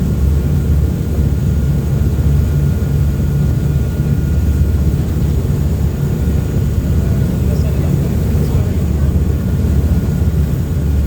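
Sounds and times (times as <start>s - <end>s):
boat engines rumbling: 0.0s - 11.0s.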